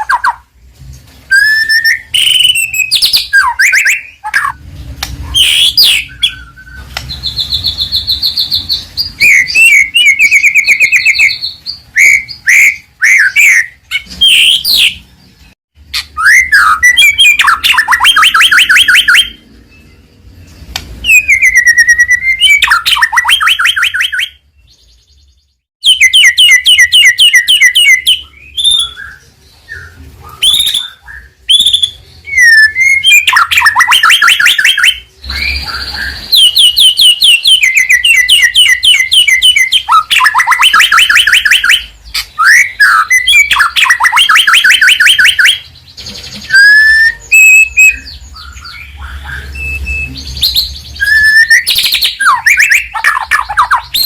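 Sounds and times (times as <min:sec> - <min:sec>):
songbird singing whistles and trills: 0:00.0 - 0:00.5, 0:01.3 - 0:54.0.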